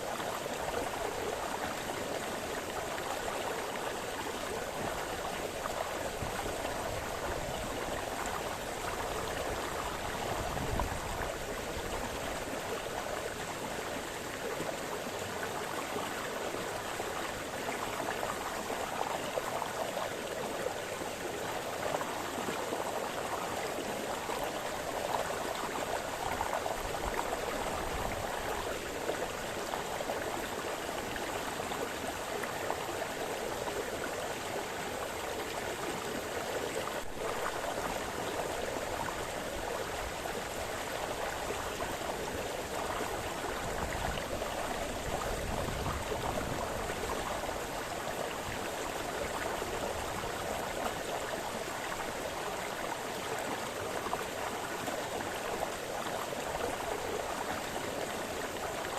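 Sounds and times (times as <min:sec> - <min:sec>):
brook babbling over stones: 0:00.0 - 0:58.9.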